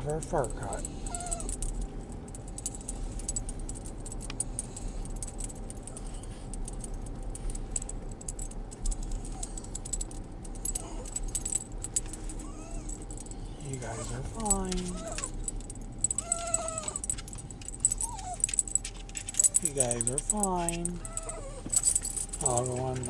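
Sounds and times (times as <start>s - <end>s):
car cabin rumble: 0.0s - 23.0s
metal tags jingling: 0.0s - 23.0s.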